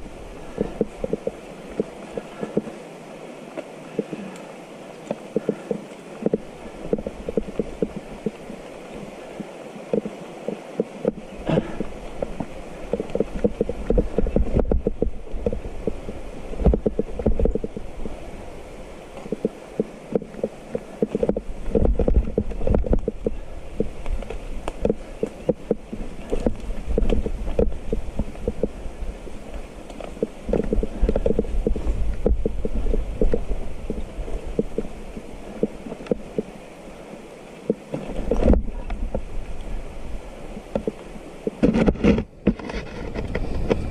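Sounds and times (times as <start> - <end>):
mountain bike rattling over stones: 0.0 - 2.9, 3.9 - 36.7
wind rumble on microphone: 0.0 - 43.9.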